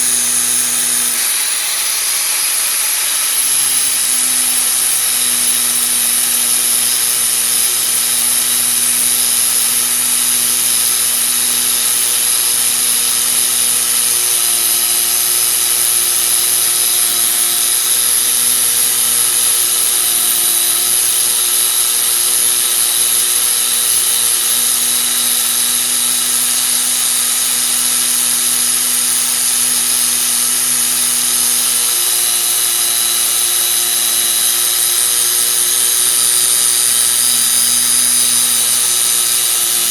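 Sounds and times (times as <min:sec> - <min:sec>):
brake disc grinding whine: 0:00.0 - 0:39.9.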